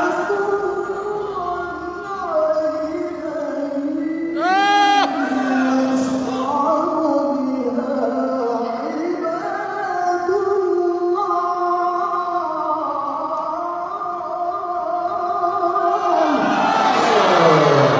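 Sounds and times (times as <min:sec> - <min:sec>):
man reciting melodically: 0:00.0 - 0:17.9.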